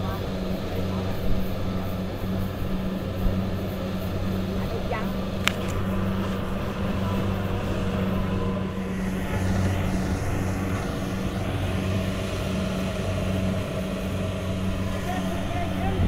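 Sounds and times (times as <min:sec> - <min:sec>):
harvester engine drone: 0:00.0 - 0:16.0.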